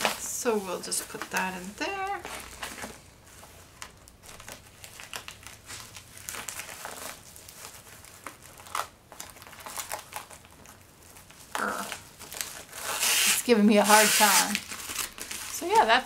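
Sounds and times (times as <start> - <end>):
plastic mailer crinkling: 0.0 - 16.0.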